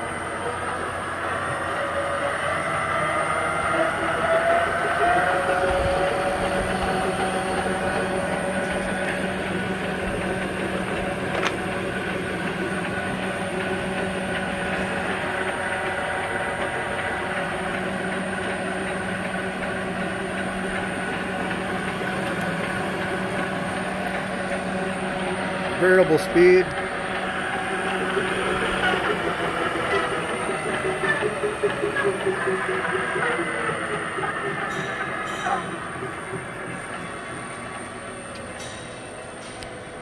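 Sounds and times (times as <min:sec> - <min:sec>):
lathe mechanical hum: 0:00.0 - 0:40.0.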